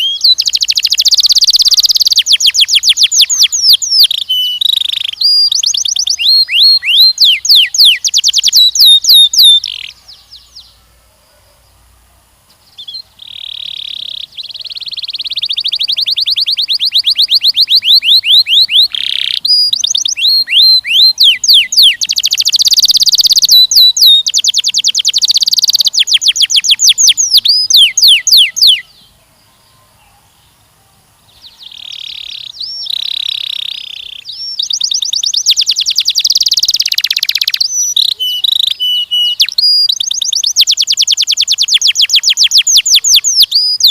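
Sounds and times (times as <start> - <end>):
canary singing trills: 0.0 - 11.9, 12.6 - 43.9.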